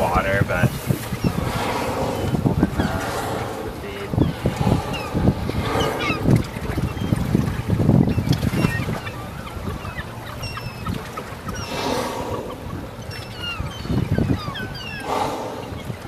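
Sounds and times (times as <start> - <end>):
gulls calling: 0.0 - 16.0
wind buffeting microphone: 0.0 - 16.0
whale blowing: 0.7 - 8.9, 11.2 - 16.0.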